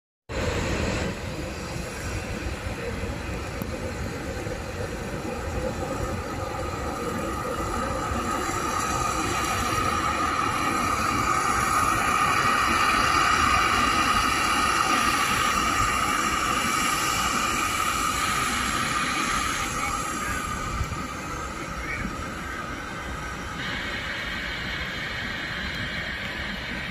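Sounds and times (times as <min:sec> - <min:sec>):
jet engines whining and rumbling: 0:00.3 - 0:26.9.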